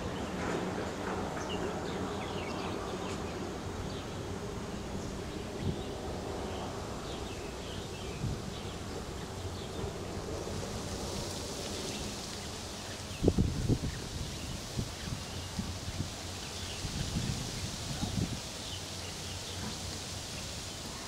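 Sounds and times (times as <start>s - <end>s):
low rumble and hiss: 0.0s - 21.0s
insects buzzing: 2.2s - 21.0s.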